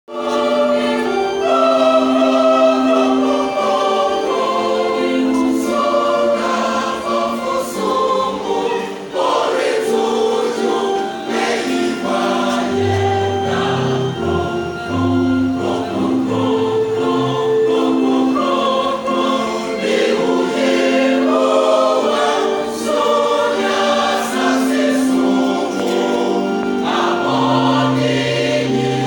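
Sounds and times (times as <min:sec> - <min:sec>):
choir singing a hymn: 0:00.1 - 0:29.0.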